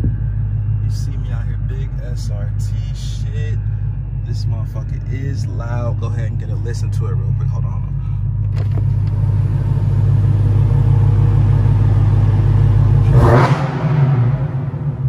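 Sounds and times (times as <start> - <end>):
deep car exhaust rumble: 0.0 - 15.0.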